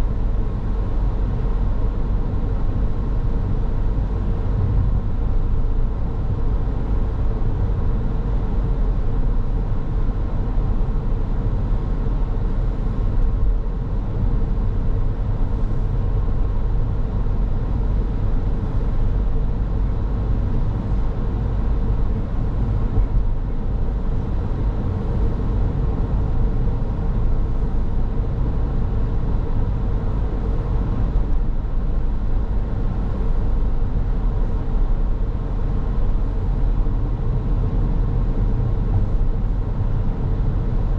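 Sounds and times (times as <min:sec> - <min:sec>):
car tyres and engine rumble: 0:00.0 - 0:40.9
faint constant hum: 0:00.0 - 0:40.9.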